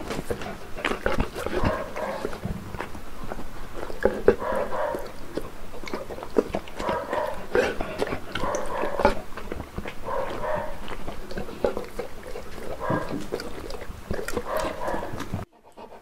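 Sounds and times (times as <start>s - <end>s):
dog chewing soft fruit: 0.0s - 16.0s
wet smacking and lip licking: 0.0s - 16.0s.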